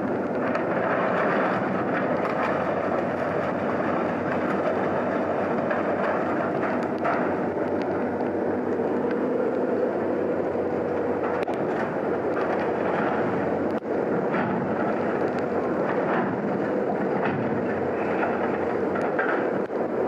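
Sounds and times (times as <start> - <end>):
heavy rain drumming: 0.0 - 20.0.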